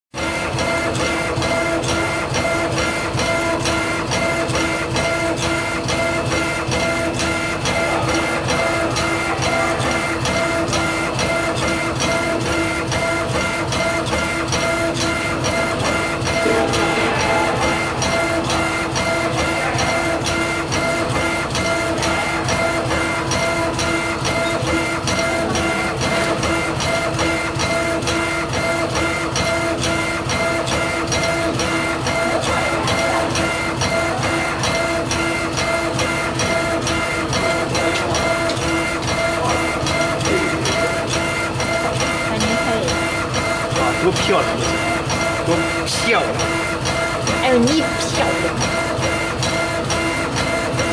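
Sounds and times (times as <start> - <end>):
laser engraver motors whining: 0.2 - 50.9
laser engraver ticks: 0.2 - 50.9.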